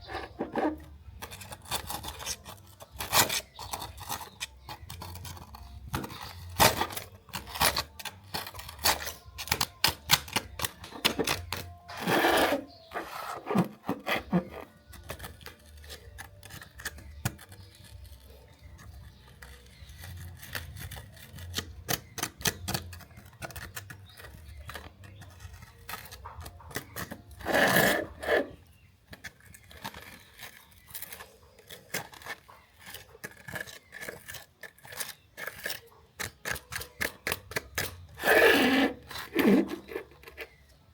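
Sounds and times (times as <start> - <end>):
clicks taps and scrapes on toy car: 0.0 - 40.8.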